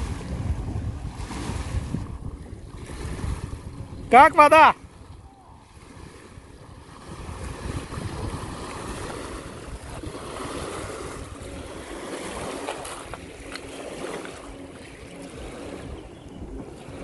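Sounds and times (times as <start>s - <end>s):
water splashing from wading: 0.0s - 17.0s
wind rumbling on microphone: 0.0s - 17.0s.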